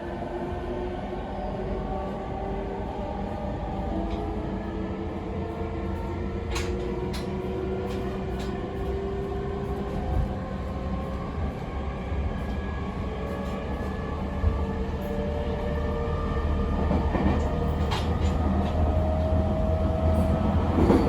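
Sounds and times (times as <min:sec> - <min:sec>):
wheels rumbling on rails: 0:01.3 - 0:21.0.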